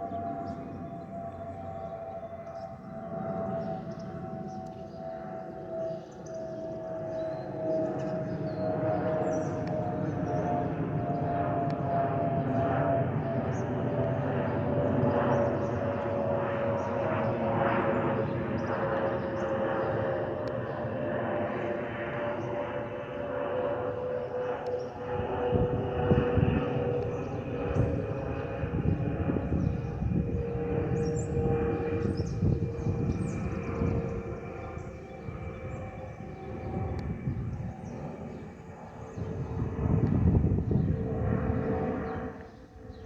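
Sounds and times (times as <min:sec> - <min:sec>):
jet engine and air noise: 0:00.0 - 0:43.0.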